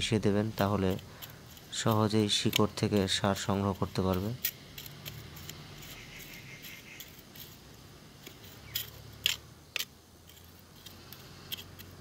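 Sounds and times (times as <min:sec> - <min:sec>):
metal tool scraping soil: 0:00.3 - 0:12.0.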